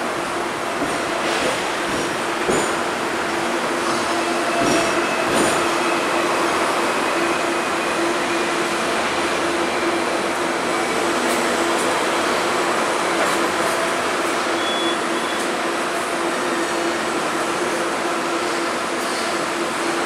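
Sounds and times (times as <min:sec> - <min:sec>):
tram rumbling and rattling: 0:00.0 - 0:20.0.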